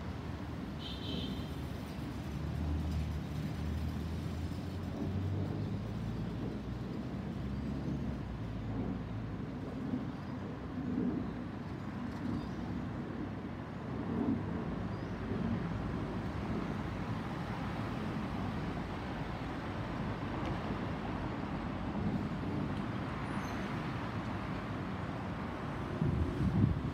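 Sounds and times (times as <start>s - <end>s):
airliner engines rumbling overhead: 3.8s - 26.9s.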